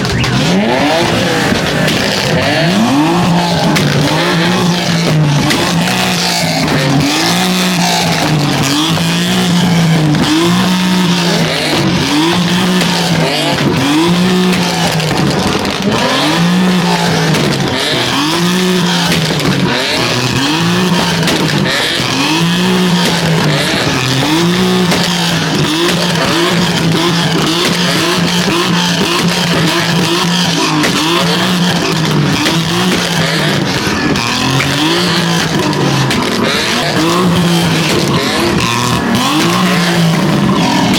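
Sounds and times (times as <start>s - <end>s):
car engine revving: 0.0s - 40.9s
tires squealing: 0.0s - 40.9s.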